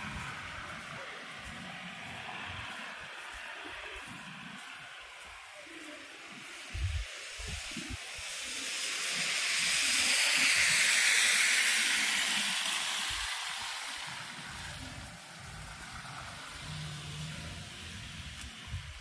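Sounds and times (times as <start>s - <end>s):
tyres hissing through wet snow: 0.0s - 19.0s.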